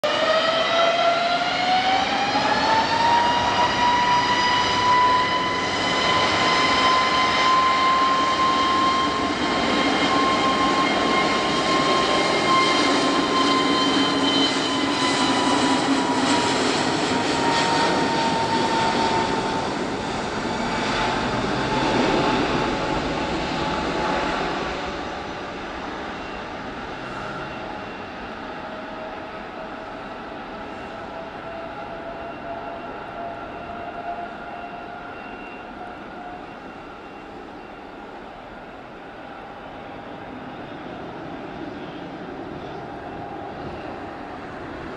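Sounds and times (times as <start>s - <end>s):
jet engine roar: 0.0s - 44.9s
jet engine whine: 0.0s - 44.9s.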